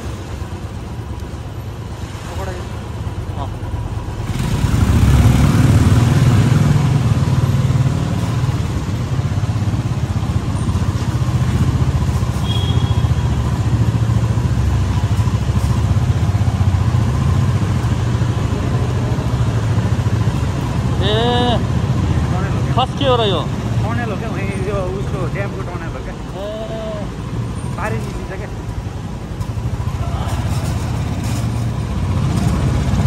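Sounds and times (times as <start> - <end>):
vehicle rumbling along road: 0.0 - 33.0.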